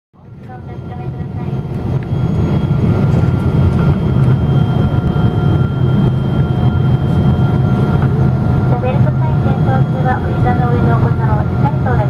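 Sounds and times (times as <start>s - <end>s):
engine and airflow rumble: 0.2s - 12.0s.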